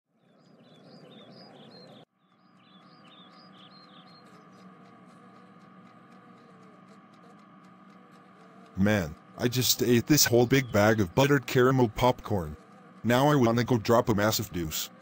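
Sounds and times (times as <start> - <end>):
small birds chirping: 0.1 - 15.0
faint steady background hum: 0.2 - 15.0.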